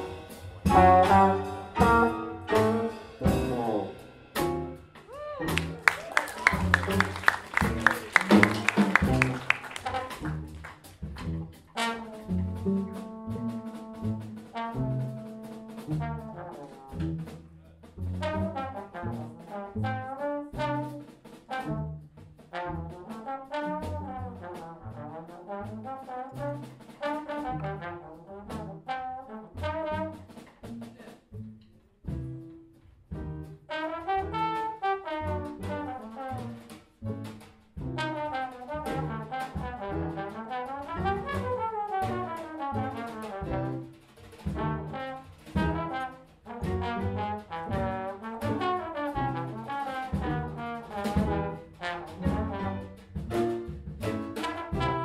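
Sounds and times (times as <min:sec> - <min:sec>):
jazz trombone solo: 0:00.0 - 0:31.4, 0:33.2 - 0:55.0
big band bass and drums: 0:00.0 - 0:55.0.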